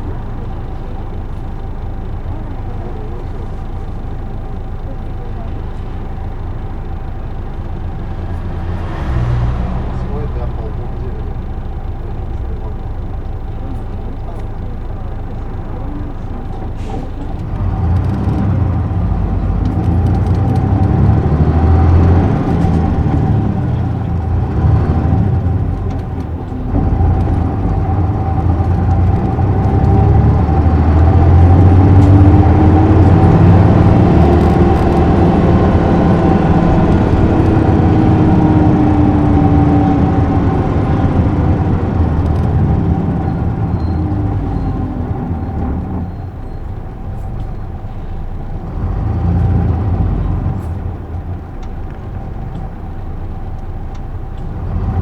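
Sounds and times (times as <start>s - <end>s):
bus diesel engine pulling away: 0.0s - 55.0s.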